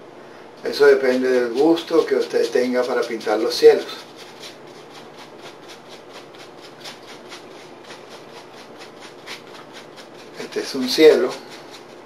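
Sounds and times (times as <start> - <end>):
paintbrush scrubbing canvas: 0.7 - 12.0.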